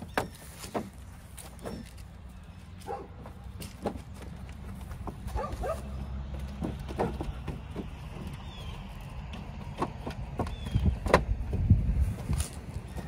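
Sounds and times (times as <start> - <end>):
paws scrabbling on metal: 0.0 - 13.0.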